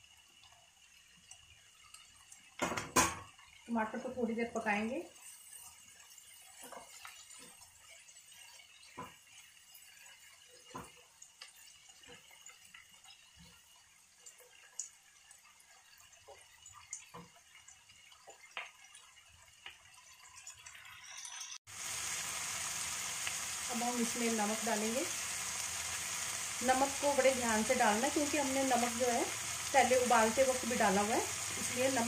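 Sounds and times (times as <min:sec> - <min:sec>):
vegetables sizzling in a frying pan: 0:00.0 - 0:32.0.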